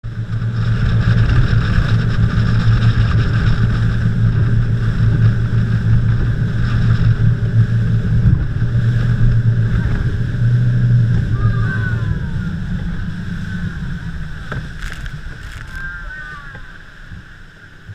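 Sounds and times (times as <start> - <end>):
boat engine droning: 0.0 - 17.9.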